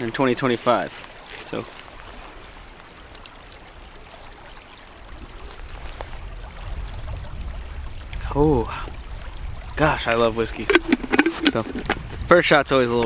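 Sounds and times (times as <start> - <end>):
flowing river water: 0.0 - 8.2, 8.8 - 13.0.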